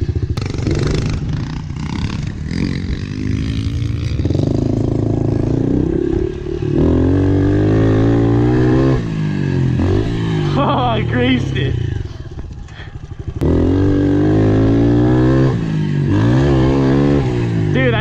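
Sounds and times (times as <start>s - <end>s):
dirt bike engine revving: 0.0s - 12.3s, 13.2s - 18.0s.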